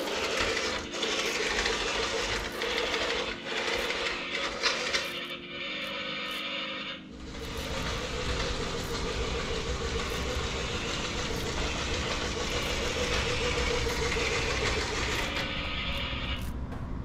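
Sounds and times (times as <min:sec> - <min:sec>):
small electric motor whirring: 0:00.0 - 0:16.6.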